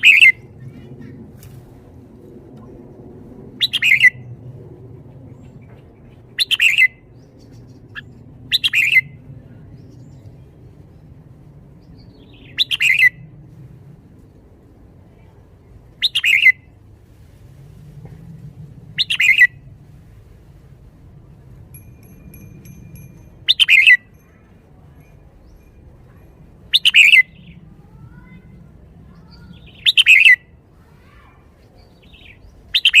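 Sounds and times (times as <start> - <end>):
faint low background hum: 0.0 - 33.0.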